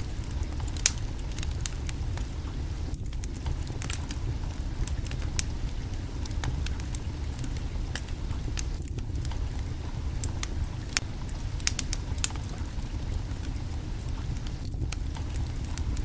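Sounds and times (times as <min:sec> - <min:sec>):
low rumble: 0:00.0 - 0:16.0
wood fire crackling: 0:00.0 - 0:16.0.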